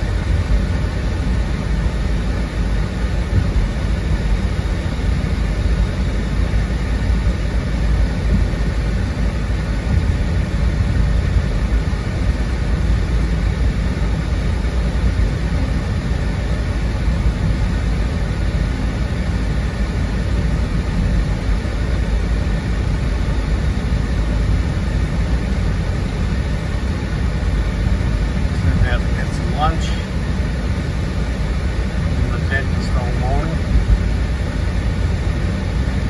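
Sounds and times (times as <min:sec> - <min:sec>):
car cabin road and engine rumble: 0:00.0 - 0:36.0.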